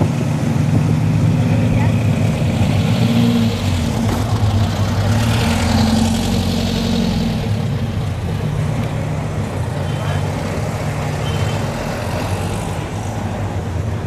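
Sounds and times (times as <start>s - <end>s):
cars driving slowly past: 0.0s - 14.0s.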